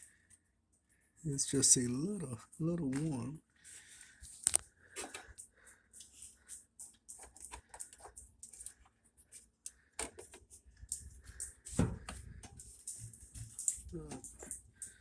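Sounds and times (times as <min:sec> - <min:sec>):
hands handling parts and tools: 0:02.9 - 0:15.0.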